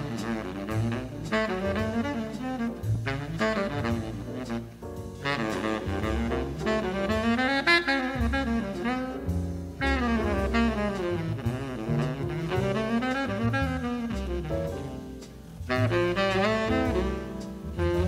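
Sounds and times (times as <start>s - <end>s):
double bass: 0.0s - 18.0s
horn playing jazz melody: 0.0s - 18.0s.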